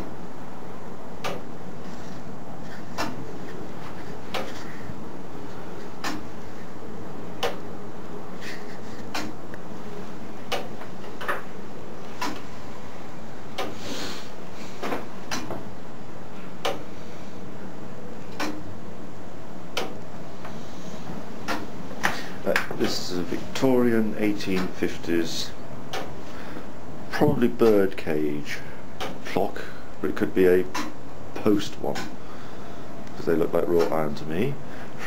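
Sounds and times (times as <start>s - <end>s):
background hum: 0.0s - 35.0s.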